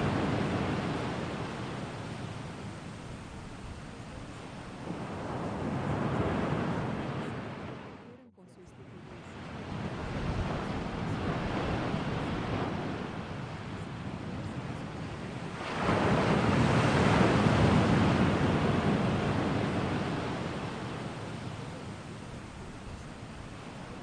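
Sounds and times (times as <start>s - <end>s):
ocean surf: 0.0s - 24.0s.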